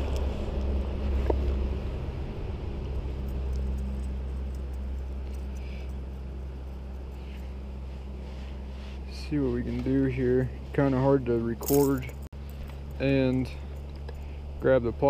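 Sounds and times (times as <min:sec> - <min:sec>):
faint hum: 0:00.0 - 0:15.0
steady low rumble: 0:00.0 - 0:15.0.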